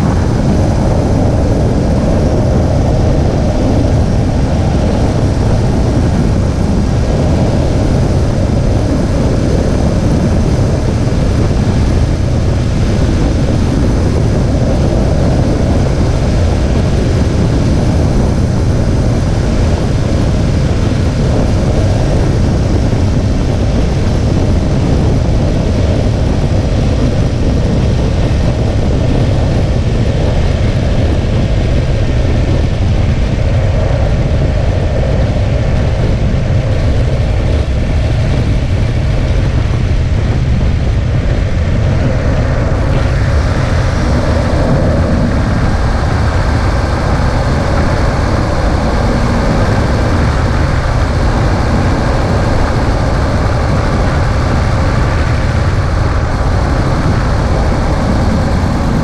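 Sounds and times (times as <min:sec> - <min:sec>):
car driving noise: 0:00.0 - 0:59.0
deep constant rumble: 0:00.0 - 0:59.0.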